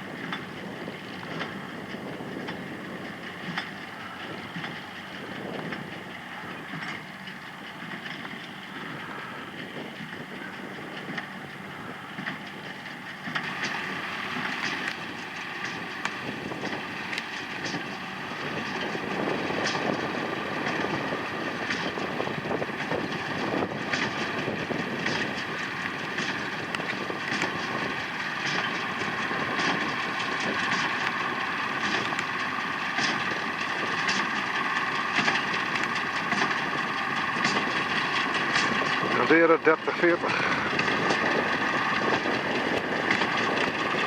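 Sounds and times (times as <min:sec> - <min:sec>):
hay baler clattering: 0:00.0 - 0:44.0
tractor diesel engine under load: 0:00.0 - 0:44.0.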